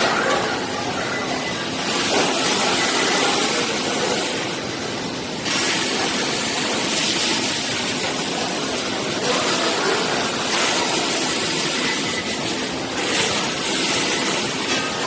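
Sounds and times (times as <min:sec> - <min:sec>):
robotic welding hiss and rumble: 0:01.6 - 0:15.0.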